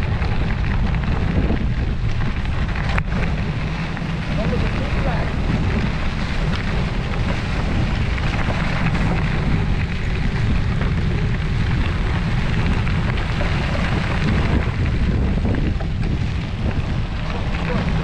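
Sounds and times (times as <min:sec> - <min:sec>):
bicycle rolling hiss: 0:00.0 - 0:18.0
wind buffeting microphone: 0:00.0 - 0:18.0.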